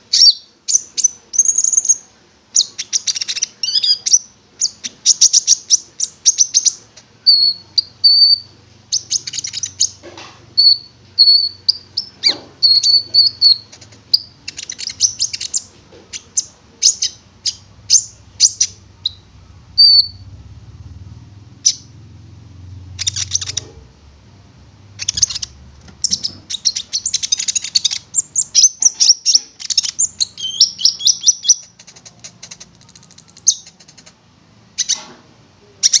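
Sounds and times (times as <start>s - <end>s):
songbird singing: 0.0s - 20.4s, 21.6s - 23.9s, 24.8s - 34.2s.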